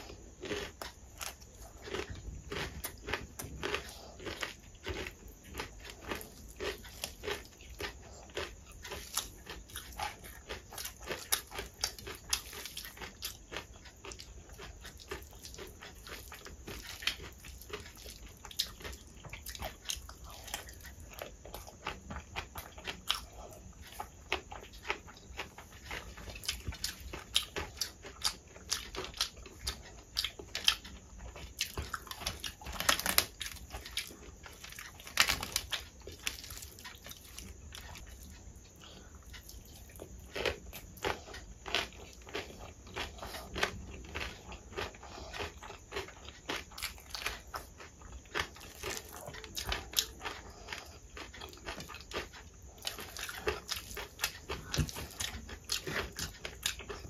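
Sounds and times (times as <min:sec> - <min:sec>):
wet chewing and lip smacks: 0:00.0 - 0:57.0.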